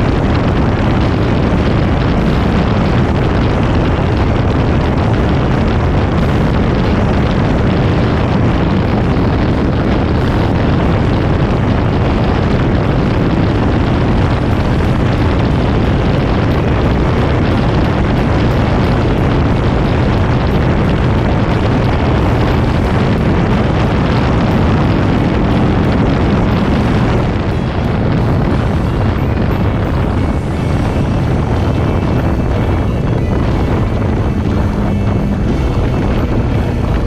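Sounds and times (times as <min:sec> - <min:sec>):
motorcycle engine and exhaust: 0:00.0 - 0:37.0
wind rush on microphone: 0:00.0 - 0:37.0.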